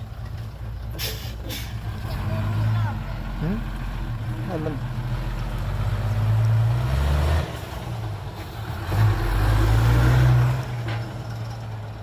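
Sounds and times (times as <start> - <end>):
heavy diesel engine revving: 1.5 - 12.0.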